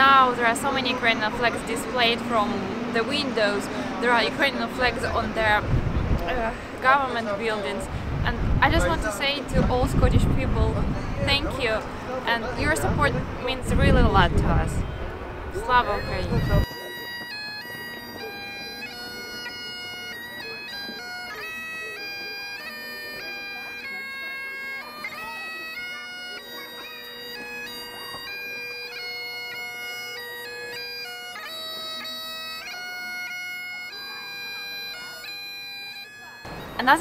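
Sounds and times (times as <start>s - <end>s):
bagpipe music: 0.0s - 37.0s.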